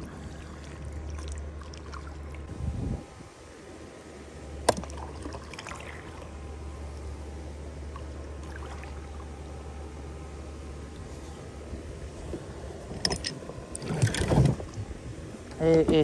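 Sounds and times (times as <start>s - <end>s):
water lapping against a boat: 0.0s - 2.5s, 4.5s - 16.0s
low steady rumble: 0.0s - 16.0s.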